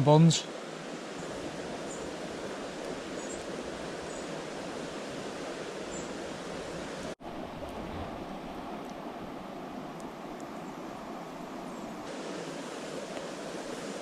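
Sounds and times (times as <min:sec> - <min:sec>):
river water rushing: 0:00.0 - 0:14.0
campfire coals crackling: 0:00.5 - 0:14.0.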